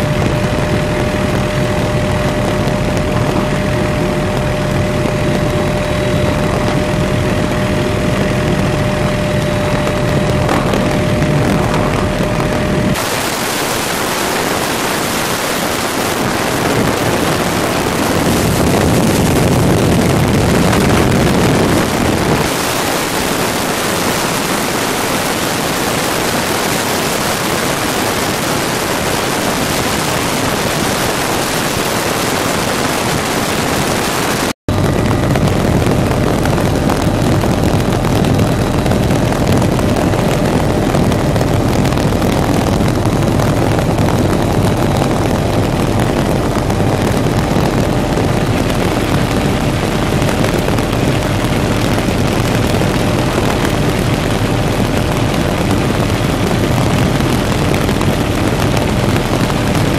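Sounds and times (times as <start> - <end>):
helicopter engine and rotor: 0.0 - 59.9
wind rush on microphone: 0.0 - 59.9.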